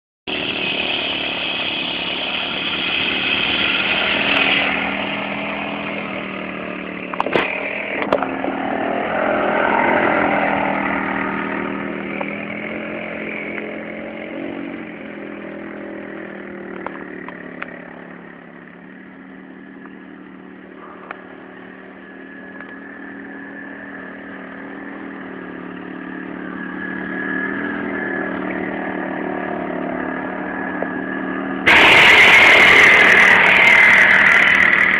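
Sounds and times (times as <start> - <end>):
quad bike engine revving: 0.3 - 34.9.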